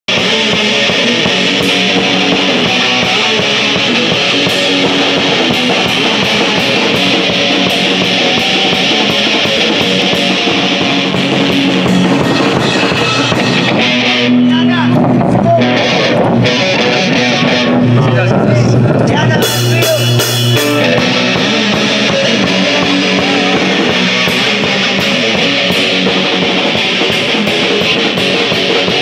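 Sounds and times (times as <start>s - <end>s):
electric guitar: 0.0s - 29.0s
drum kit beat: 0.1s - 29.0s.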